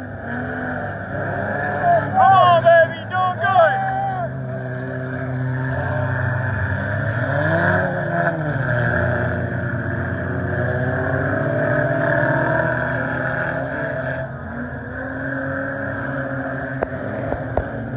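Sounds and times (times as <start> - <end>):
race car engines droning: 0.0 - 17.9.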